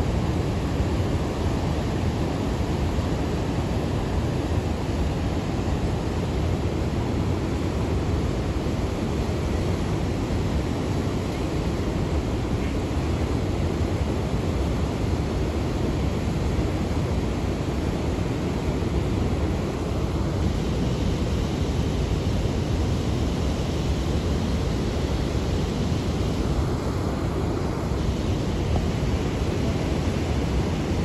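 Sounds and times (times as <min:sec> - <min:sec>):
river rushing through rapids: 0:00.0 - 0:31.0
waves washing over bank: 0:00.0 - 0:31.0.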